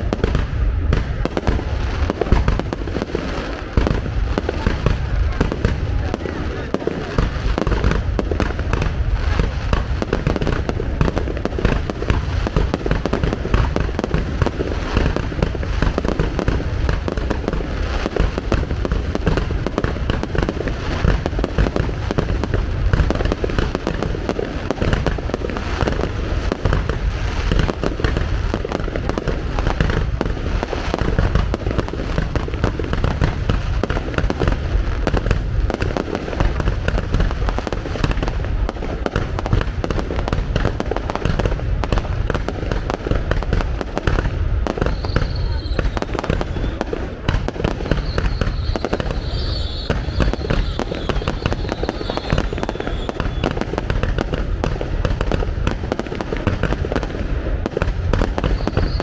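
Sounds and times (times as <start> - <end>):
fireworks bangs and crackle: 0.0 - 59.0.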